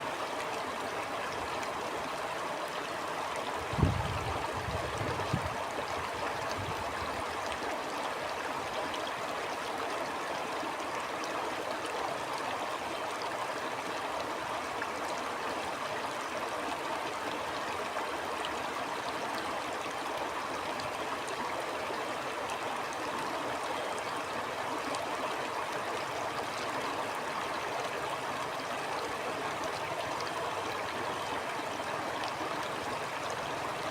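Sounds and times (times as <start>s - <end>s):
stream flowing over rocks: 0.0s - 33.9s.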